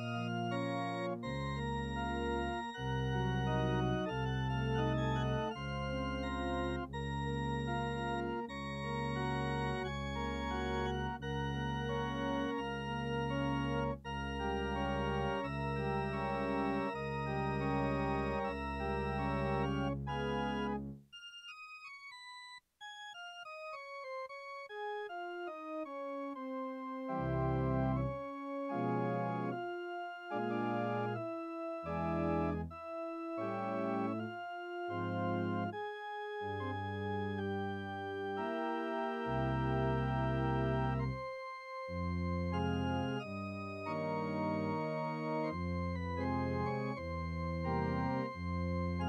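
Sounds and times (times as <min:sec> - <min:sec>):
deep organ pedal bass: 0:00.0 - 0:21.0, 0:27.0 - 0:49.0
organ chords: 0:00.0 - 0:21.0, 0:23.4 - 0:49.0
organ single notes stepping down: 0:00.0 - 0:21.0, 0:27.2 - 0:49.0.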